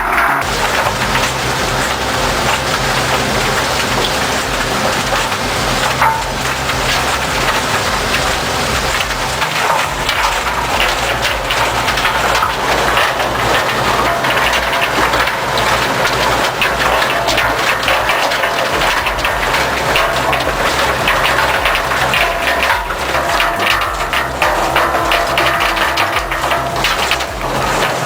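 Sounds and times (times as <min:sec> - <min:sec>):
debris tumbling and crackling: 0:00.0 - 0:28.0
low machine drone: 0:00.0 - 0:28.0.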